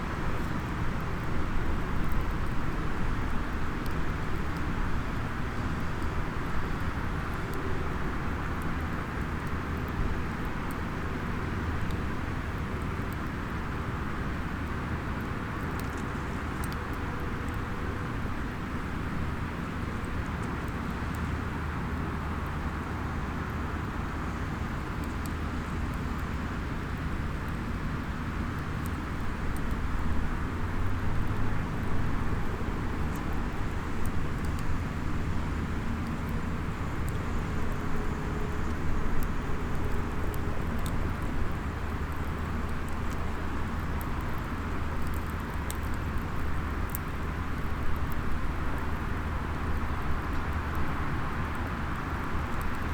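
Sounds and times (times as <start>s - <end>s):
low outdoor ambience rumble: 0.0s - 52.9s
small wood fire crackling: 0.0s - 52.9s.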